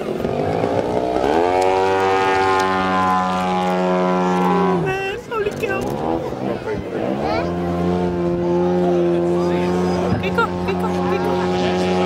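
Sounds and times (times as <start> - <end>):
model airplane engine revving: 0.0 - 12.0.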